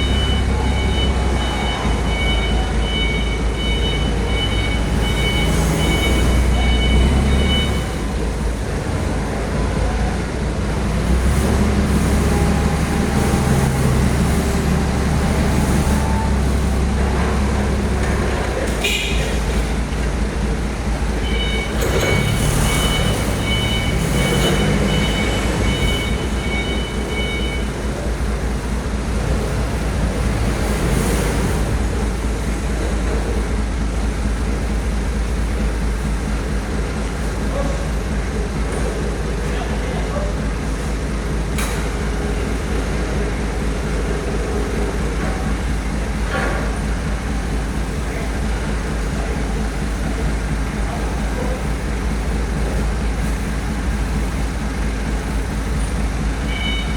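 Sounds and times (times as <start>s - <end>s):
heavy road traffic: 0.0s - 56.9s.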